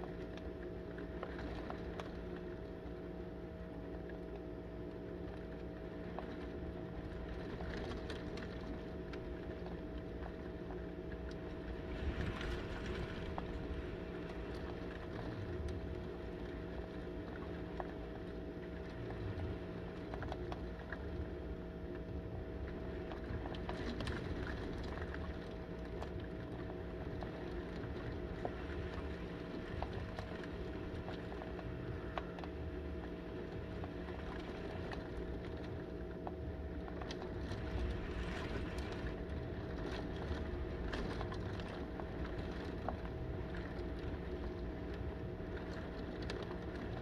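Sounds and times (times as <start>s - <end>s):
faint steady hum: 0.0s - 47.0s
low rumble of wind: 0.0s - 47.0s.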